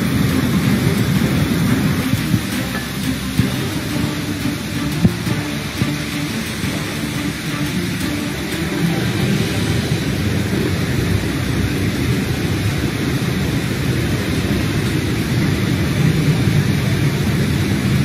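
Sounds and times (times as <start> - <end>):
heavy rain: 0.0 - 18.0
low rumble: 0.0 - 18.0.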